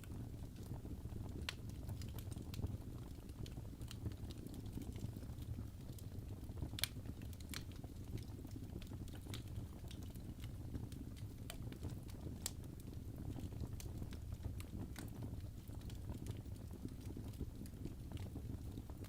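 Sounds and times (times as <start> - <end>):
fire crackling and popping: 0.0 - 19.0
wood fire rumbling: 0.0 - 19.0.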